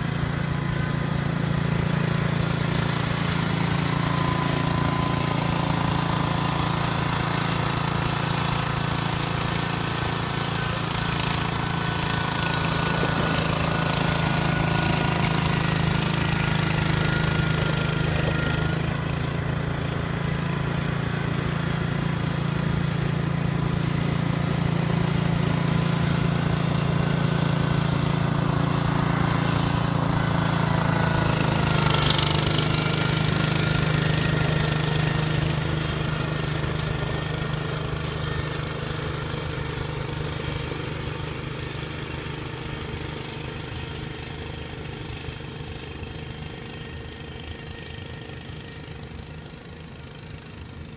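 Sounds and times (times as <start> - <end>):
small tractor engine running: 0.0 - 50.9.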